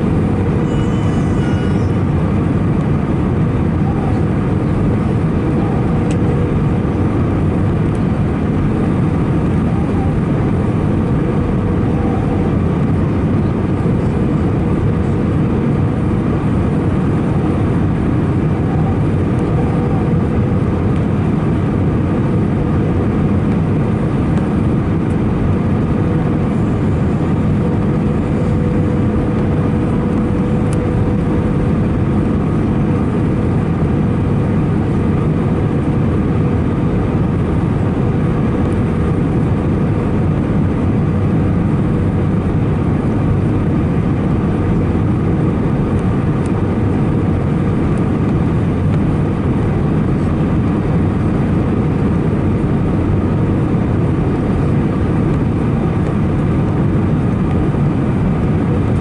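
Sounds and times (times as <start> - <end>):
engine and airflow rumble: 0.0 - 59.0.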